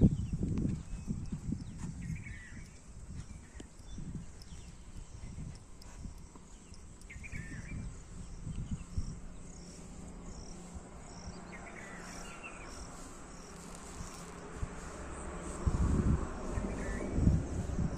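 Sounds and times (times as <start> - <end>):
insect chirping: 0.0 - 17.9
low rumble: 0.0 - 17.9.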